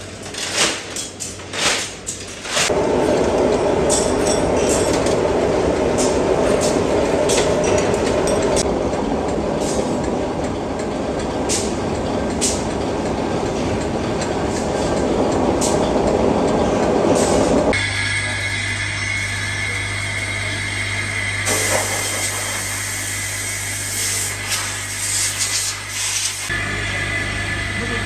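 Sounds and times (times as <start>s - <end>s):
workshop machinery running: 0.0s - 28.0s.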